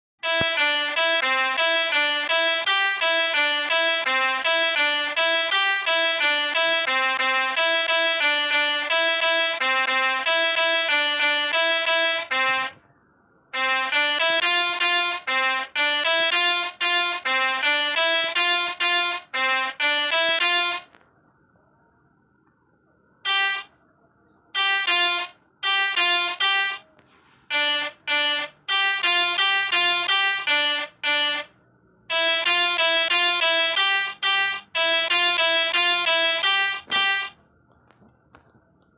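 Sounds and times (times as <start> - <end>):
melodica playing short notes: 0.2 - 12.8, 13.6 - 21.0, 23.3 - 23.7, 24.6 - 26.8, 27.5 - 31.5, 32.1 - 37.4.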